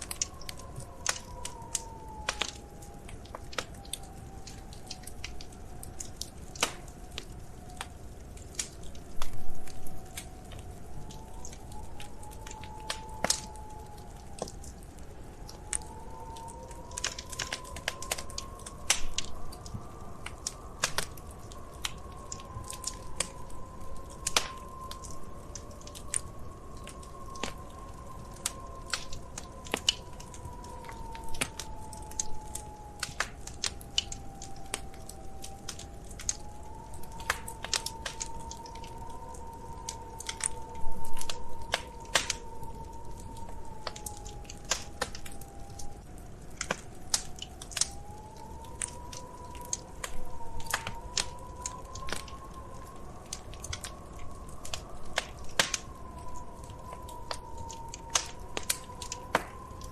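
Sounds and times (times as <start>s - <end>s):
low fire rumble: 0.0s - 59.9s
wood fire crackling: 0.0s - 59.9s
faint whistling tone: 9.2s - 59.9s.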